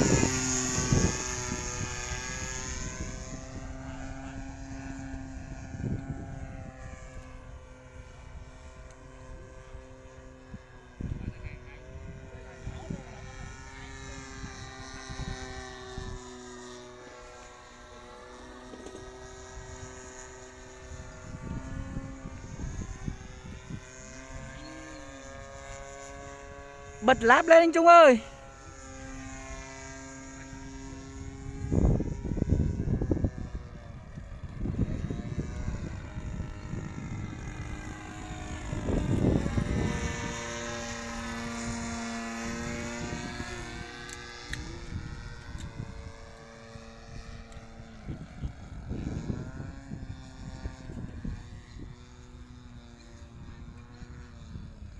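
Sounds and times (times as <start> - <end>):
wind rumbling on microphone: 0.0 - 16.8, 18.8 - 54.9
model plane propeller drone: 0.0 - 54.9.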